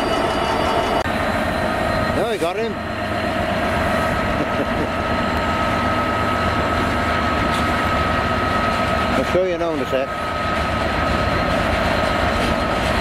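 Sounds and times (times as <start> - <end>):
diesel locomotive running: 0.0 - 13.0
high whine: 0.0 - 13.0.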